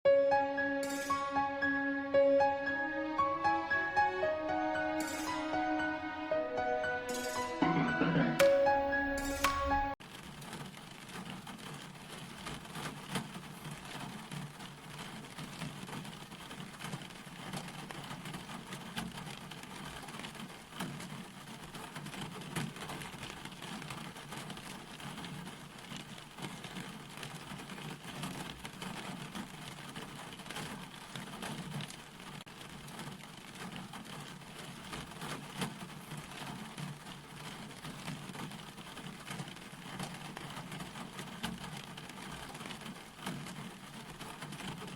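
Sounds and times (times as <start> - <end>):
steady rain falling: 7.7 - 44.9.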